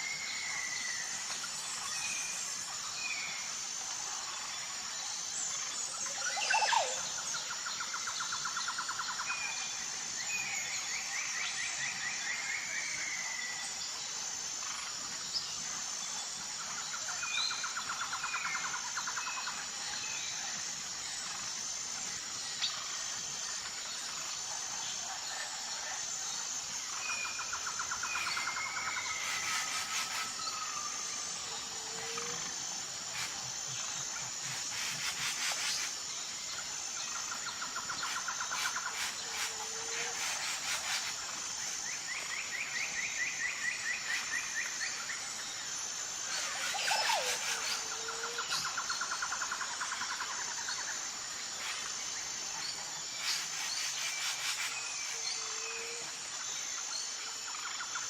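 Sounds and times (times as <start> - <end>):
birds singing trills and chirps: 0.0 - 25.3, 26.0 - 58.0
high-pitched insect trill: 0.0 - 58.0.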